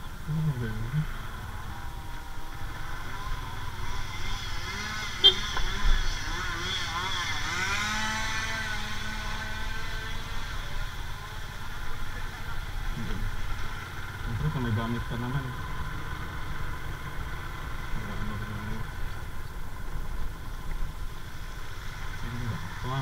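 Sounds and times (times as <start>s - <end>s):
motorcycle engine running: 0.0s - 23.0s
passing cars and motorcycle: 0.0s - 23.0s.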